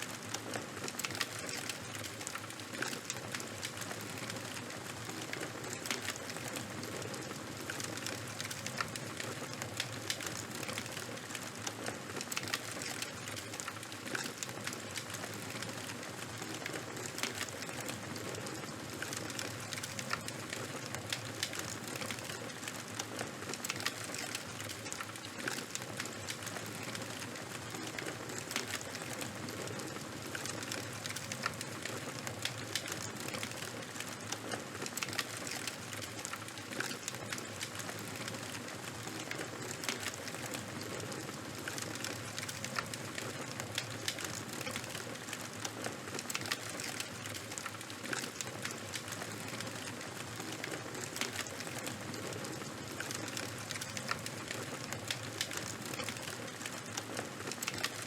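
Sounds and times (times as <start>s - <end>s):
charcoal fire crackling: 0.0s - 58.0s.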